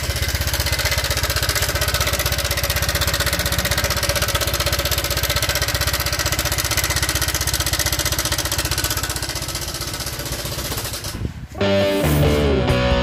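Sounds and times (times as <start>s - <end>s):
scooter engine rough clatter: 0.0s - 11.6s.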